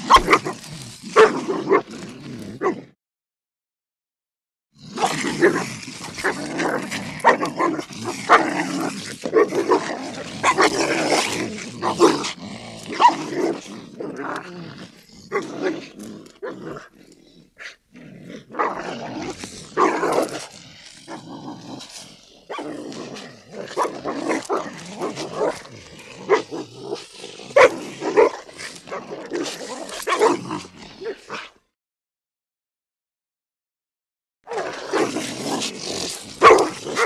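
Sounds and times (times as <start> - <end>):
dogs growling and barking: 0.0 - 3.0, 4.8 - 31.8, 34.5 - 37.0.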